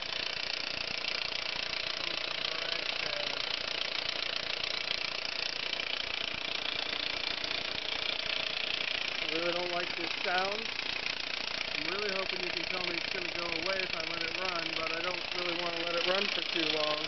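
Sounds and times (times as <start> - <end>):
car engine idling with clatter: 0.0 - 17.0.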